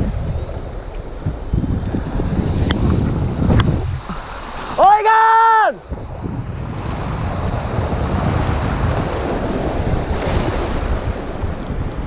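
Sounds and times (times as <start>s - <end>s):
wind buffeting microphone: 0.0s - 12.0s
surf washing over rocks: 2.2s - 12.0s.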